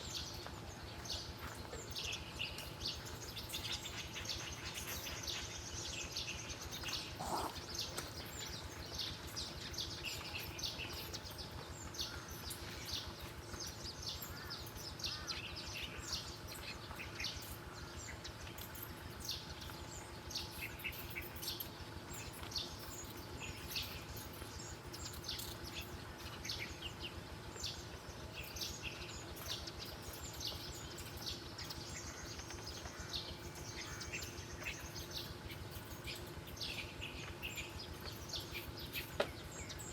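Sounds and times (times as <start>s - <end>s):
low outdoor hiss: 0.0s - 39.9s
small birds chirping: 0.0s - 39.9s.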